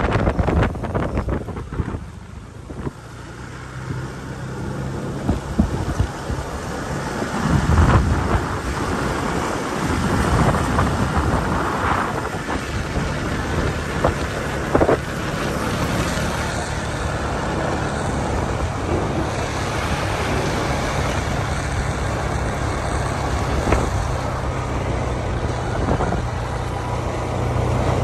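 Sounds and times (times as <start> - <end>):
motorcycle engine hum: 0.0 - 28.0
wind buffeting microphone: 0.0 - 28.0.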